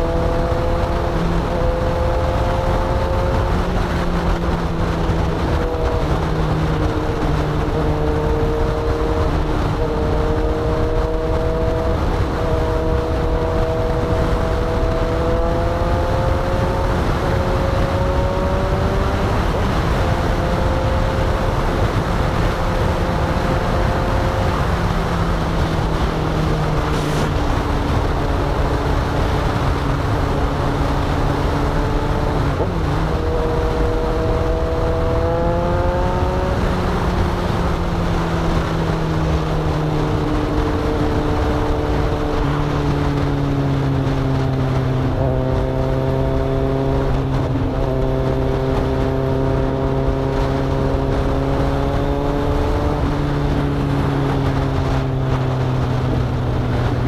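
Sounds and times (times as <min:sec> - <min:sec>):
motorcycle engine drone: 0:00.0 - 0:57.0
wind buffeting microphone: 0:00.0 - 0:57.0.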